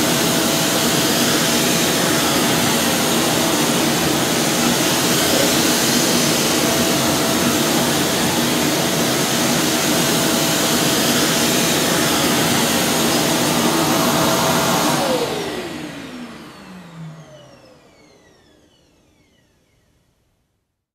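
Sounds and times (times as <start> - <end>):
vacuum cleaner motor whine: 0.0 - 20.3.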